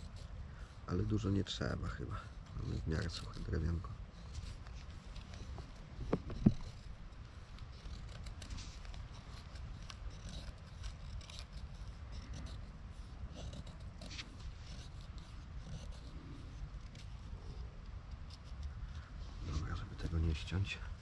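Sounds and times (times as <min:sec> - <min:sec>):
knife scraping wood: 0:02.4 - 0:20.1.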